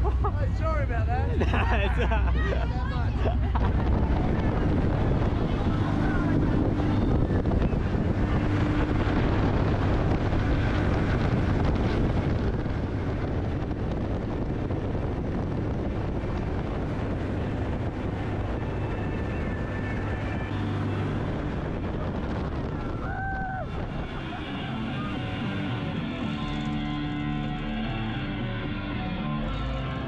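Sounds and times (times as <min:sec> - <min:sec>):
wind buffeting microphone: 0:00.0 - 0:27.5
boat engine drone: 0:00.0 - 0:30.0.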